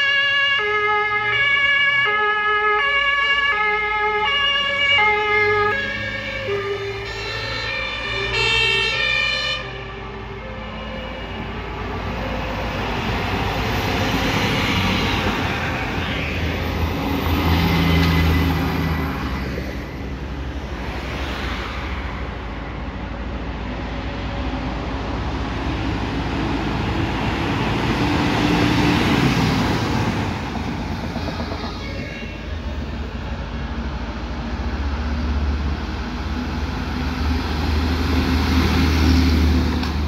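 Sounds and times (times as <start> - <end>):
fire trucks driving past: 0.0 - 40.0
heavy diesel engines: 0.0 - 40.0.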